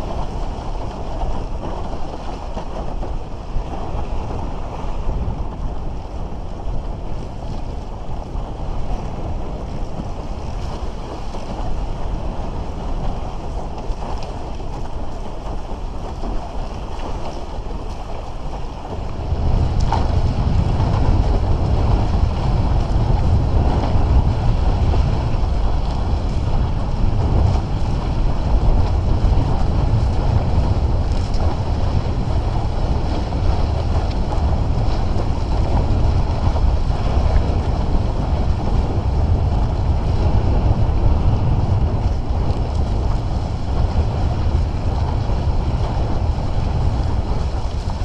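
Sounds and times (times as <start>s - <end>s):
water rushing along hull: 0.0s - 48.0s
wind buffeting microphone: 0.0s - 48.0s.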